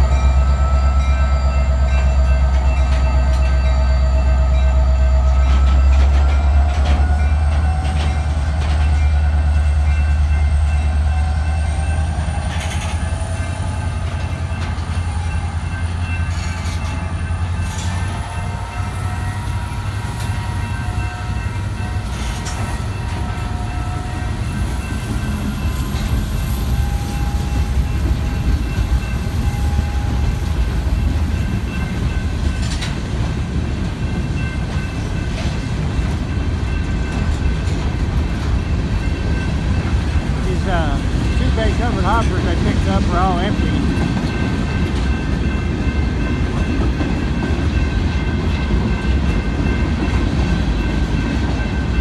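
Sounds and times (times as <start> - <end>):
diesel locomotive engine rumbling: 0.0 - 52.0
train cars clanking: 0.0 - 52.0
train cars rolling past: 0.0 - 52.0.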